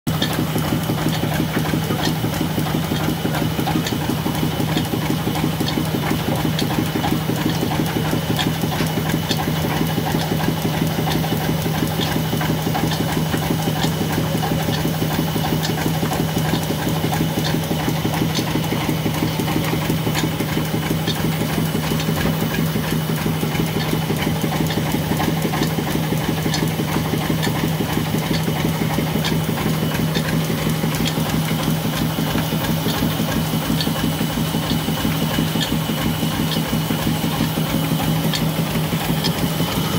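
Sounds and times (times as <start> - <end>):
diesel engine running: 0.1 - 39.9
light regular ticking: 0.1 - 39.9.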